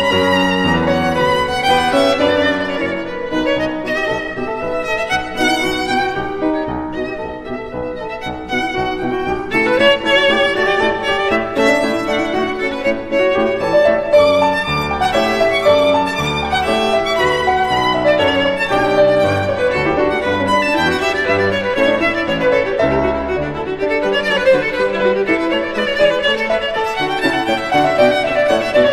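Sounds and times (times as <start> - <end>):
violin melody: 0.0 - 28.9.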